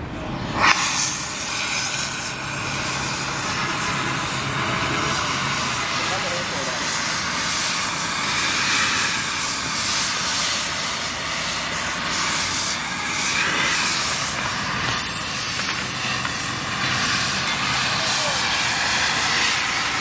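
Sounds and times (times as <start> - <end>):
gas torch flame hissing: 0.4 - 20.0.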